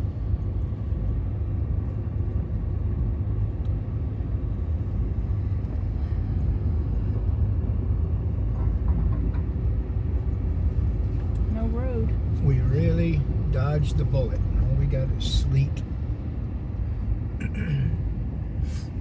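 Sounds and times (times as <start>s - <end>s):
car road and tyre noise: 0.0s - 19.0s.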